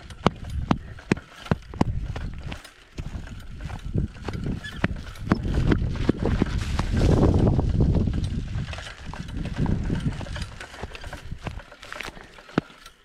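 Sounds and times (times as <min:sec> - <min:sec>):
low rumble of rolling: 0:00.0 - 0:12.6
unicycle clicking: 0:00.0 - 0:13.0.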